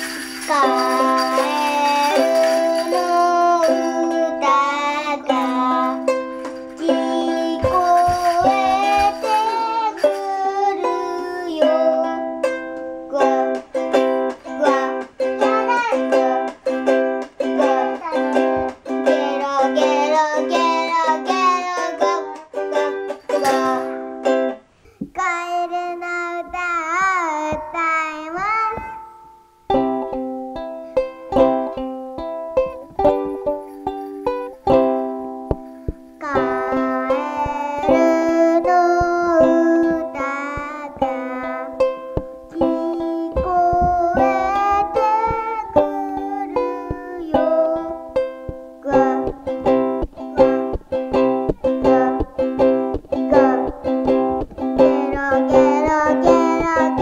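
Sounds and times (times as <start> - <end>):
child singing with reverb: 0.0 - 12.5, 13.1 - 16.7, 17.4 - 24.0, 25.1 - 29.1, 36.2 - 41.9, 42.5 - 50.8, 51.5 - 57.0
strummed ukulele: 0.0 - 57.0.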